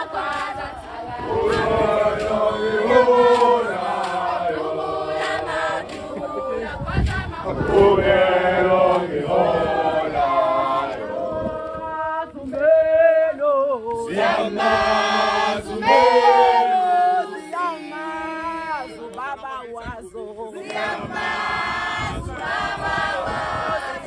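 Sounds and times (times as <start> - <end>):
group singing: 0.0 - 19.4, 20.1 - 24.0.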